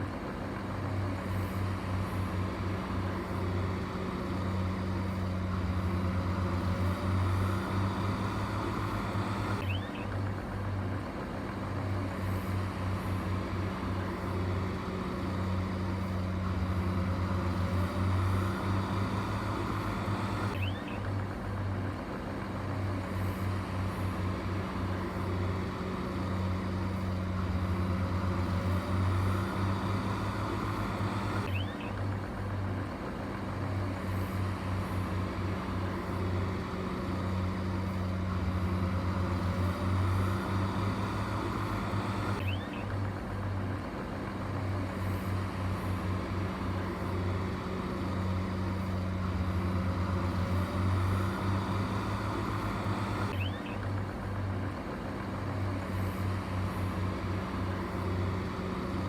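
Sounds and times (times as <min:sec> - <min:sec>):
heavy machine engine humming: 0:00.0 - 0:59.0.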